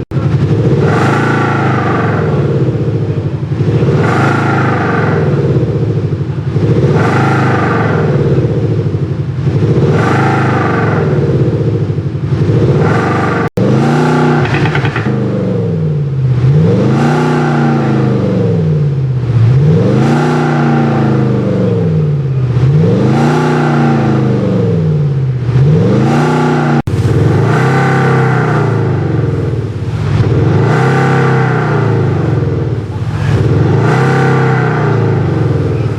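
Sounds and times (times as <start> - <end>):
car exhaust revving: 0.0 - 35.9.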